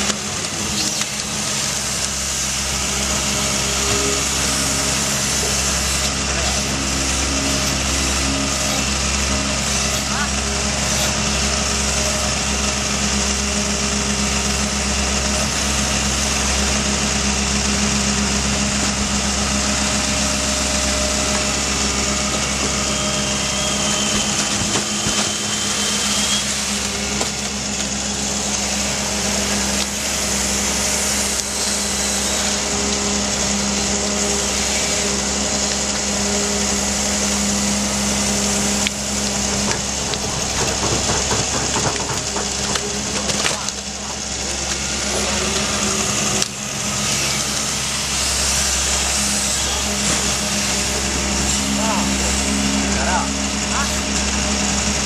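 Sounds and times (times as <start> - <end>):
diesel excavator engine running: 0.0 - 55.0.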